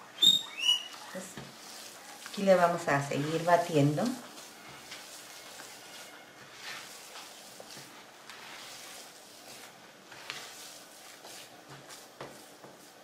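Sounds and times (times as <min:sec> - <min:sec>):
dough being beaten in a bowl: 0:01.3 - 0:13.0.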